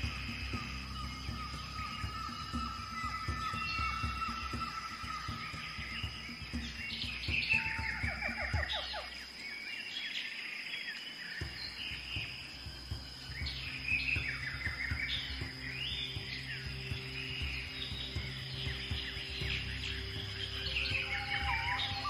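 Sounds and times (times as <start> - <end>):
low music drone: 0.0 - 9.5, 11.4 - 22.0
thin steady high tone: 0.0 - 9.5, 11.4 - 22.0
birds chirping and trilling: 0.0 - 22.0.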